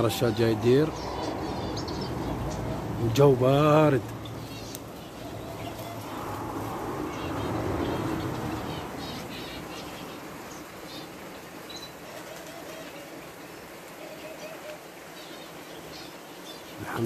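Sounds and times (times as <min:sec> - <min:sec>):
fan machine hum: 0:00.0 - 0:17.0
small birds chirping: 0:00.0 - 0:17.0.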